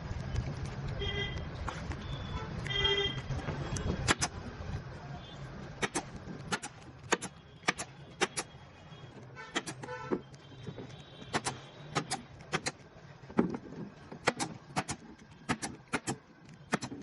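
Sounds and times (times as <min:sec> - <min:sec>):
low traffic hum: 0:00.0 - 0:17.0
sharp clicks: 0:00.1 - 0:04.4, 0:05.8 - 0:13.0, 0:14.2 - 0:17.0.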